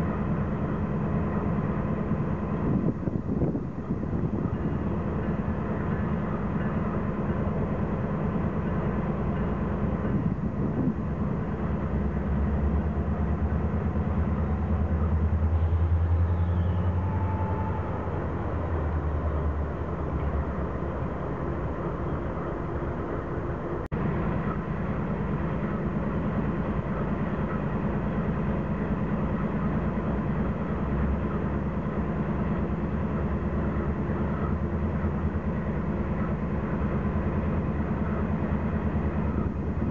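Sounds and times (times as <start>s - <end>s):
diesel locomotives droning: 0.0s - 39.9s.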